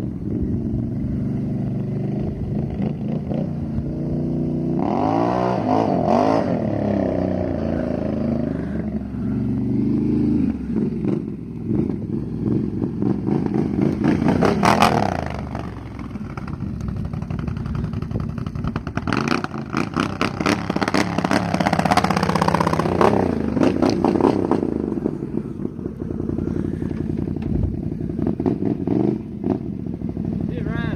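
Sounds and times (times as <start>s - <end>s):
engine revving: 0.0s - 30.9s.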